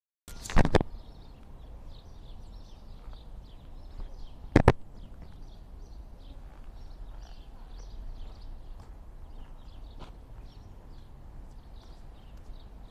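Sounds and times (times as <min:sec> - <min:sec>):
small birds chirping: 0:00.3 - 0:12.9.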